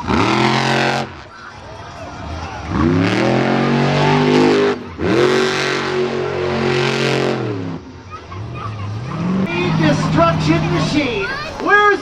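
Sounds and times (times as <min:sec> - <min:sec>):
truck engine revving: 0:00.0 - 0:11.9.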